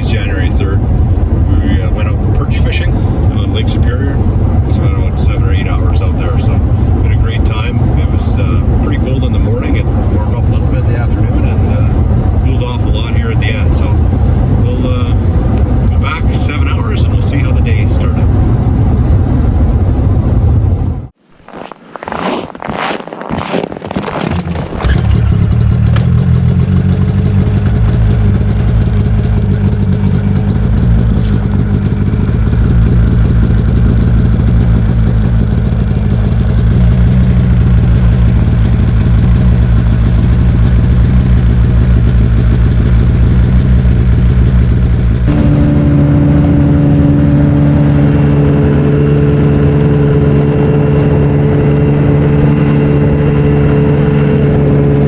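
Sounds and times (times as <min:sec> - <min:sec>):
small vehicle engine running: 0:00.0 - 0:21.1, 0:24.3 - 0:55.0.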